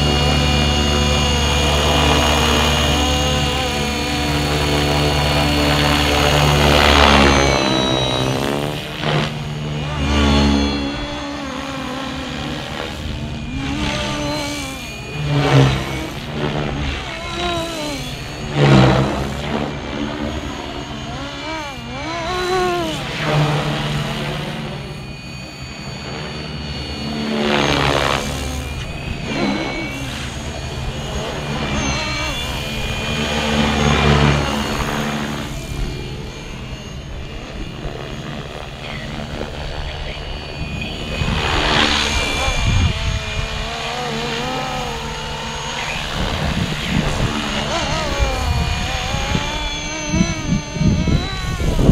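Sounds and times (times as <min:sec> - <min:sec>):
rc helicopter motor whine: 0:00.0 - 0:51.9
rotor blades whirring: 0:00.0 - 0:51.9.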